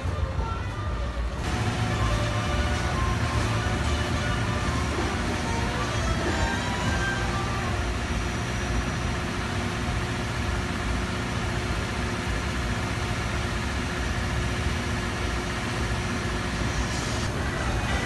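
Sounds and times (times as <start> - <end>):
large engine idling: 0.0 - 18.0.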